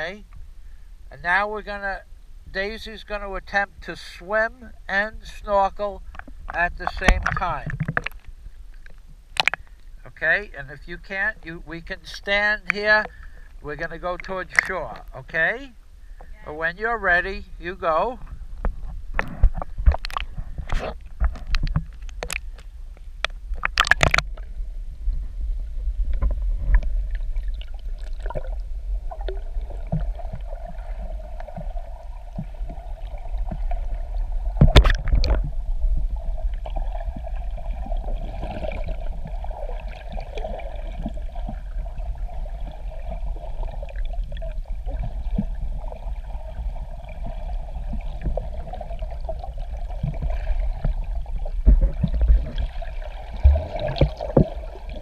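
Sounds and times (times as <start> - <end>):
steady low rumble: 0.0 - 55.0
water sloshing and gurgling: 3.4 - 55.0.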